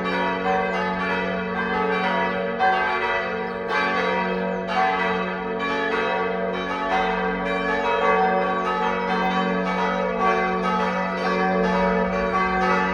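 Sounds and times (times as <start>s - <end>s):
church bells pealing: 0.0s - 12.9s.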